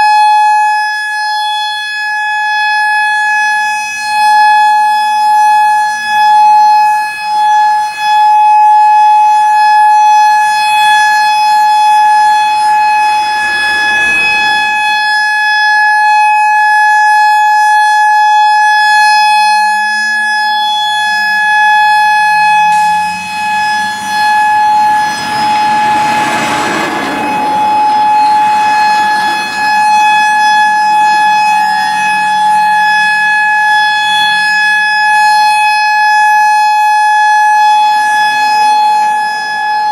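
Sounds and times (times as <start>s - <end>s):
electronic warning siren tone: 0.0s - 39.9s.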